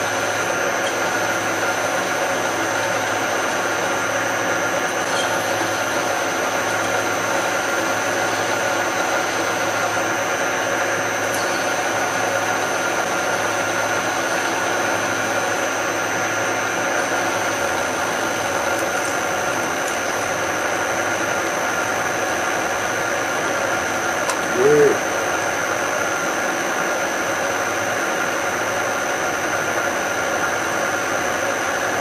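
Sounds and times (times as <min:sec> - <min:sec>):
drill machine humming: 0:00.0 - 0:26.6.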